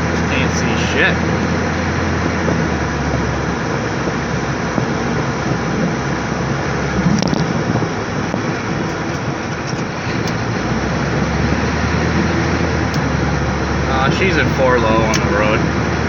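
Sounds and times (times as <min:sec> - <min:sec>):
diesel engine heard from cab: 0:00.0 - 0:16.0.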